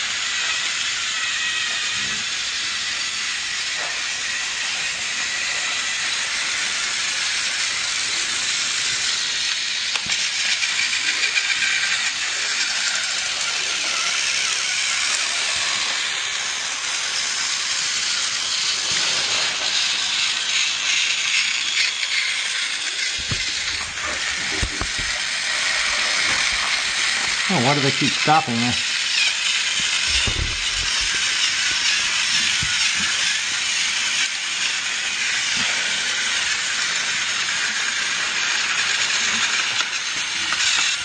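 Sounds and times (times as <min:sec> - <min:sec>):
toy train whirring: 0:00.0 - 0:41.0.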